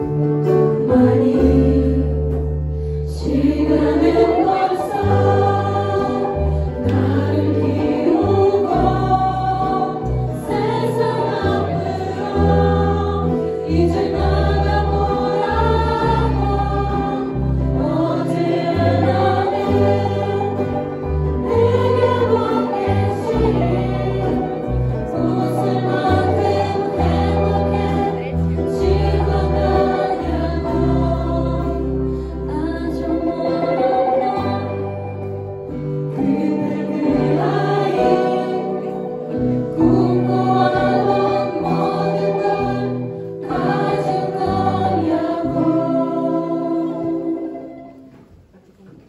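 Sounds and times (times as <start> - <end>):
choir singing a pop ballad: 0.0 - 48.4
keyboard and guitars: 0.0 - 48.5.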